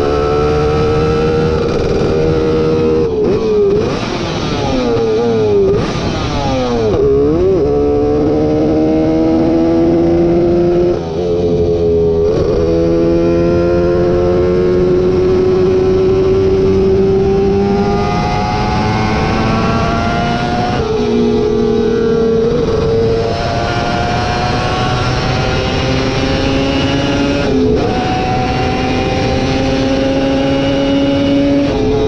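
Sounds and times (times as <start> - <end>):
vehicle engine revving: 0.0 - 32.0.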